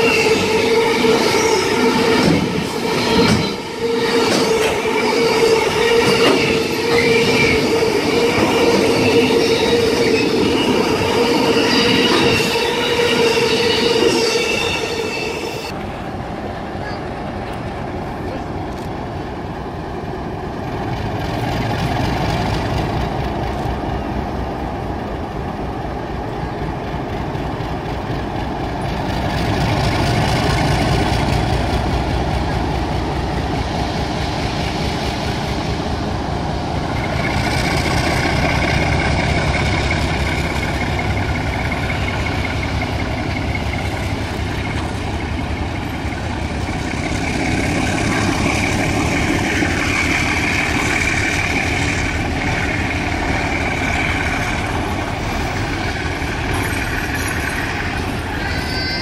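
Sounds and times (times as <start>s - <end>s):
diesel locomotive engine: 0.0s - 59.0s
train carriages rumbling: 0.0s - 59.0s.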